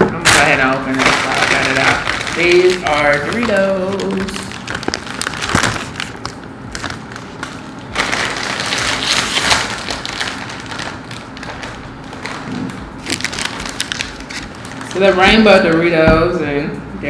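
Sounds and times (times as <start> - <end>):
chip bag crinkling: 0.2 - 15.8.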